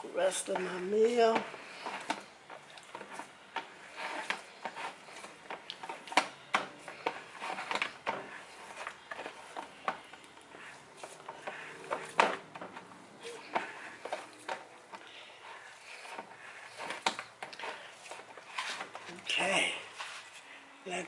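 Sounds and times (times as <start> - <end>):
hands kneading bread dough: 0.0 - 21.0
plastic bowl knocking and scraping: 0.5 - 19.2.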